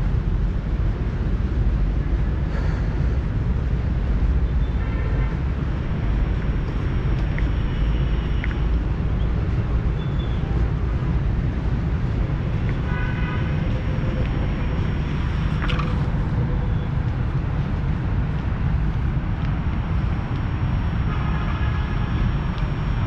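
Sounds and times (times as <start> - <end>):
city traffic rumble: 0.0 - 23.0
wind on microphone: 0.0 - 23.0.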